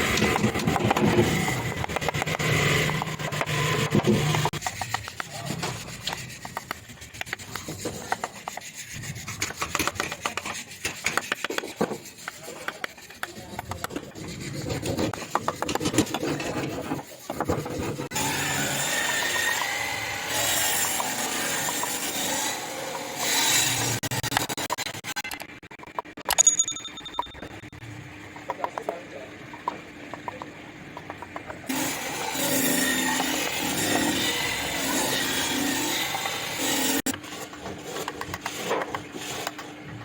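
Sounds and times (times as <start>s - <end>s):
tool scraping wood: 0.0s - 26.1s, 31.0s - 40.0s.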